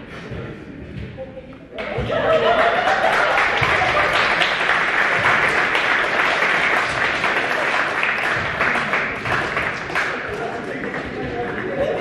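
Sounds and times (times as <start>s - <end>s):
crowd applause: 1.8s - 12.0s.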